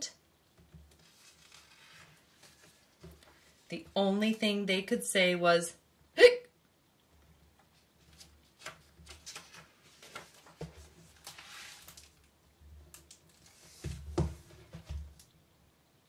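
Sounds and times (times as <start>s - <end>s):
soft hiss: 0.0s - 16.0s.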